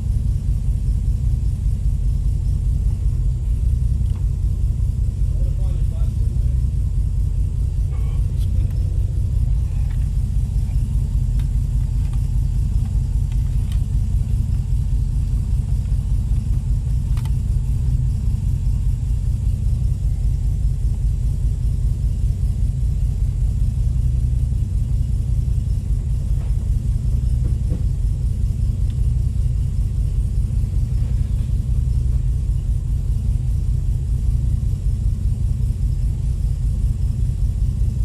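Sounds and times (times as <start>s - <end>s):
car engine rumble: 0.0s - 38.0s
faint engine clicks: 0.1s - 38.0s.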